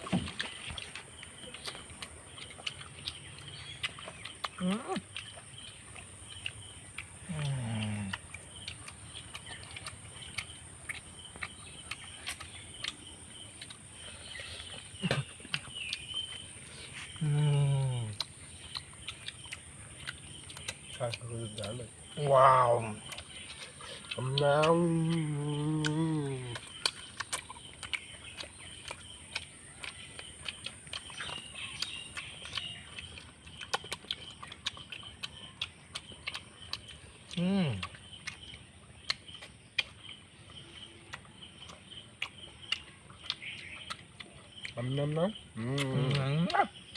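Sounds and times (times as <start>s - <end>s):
bird chirps: 0.0s - 46.9s
chewing and lip smacking: 0.0s - 46.9s.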